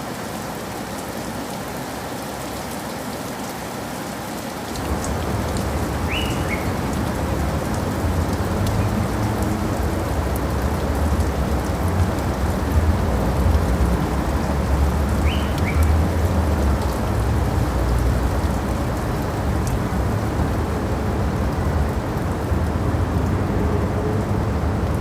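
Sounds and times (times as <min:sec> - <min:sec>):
steady rain: 0:00.0 - 0:25.0
thunder rumbling: 0:04.9 - 0:25.0.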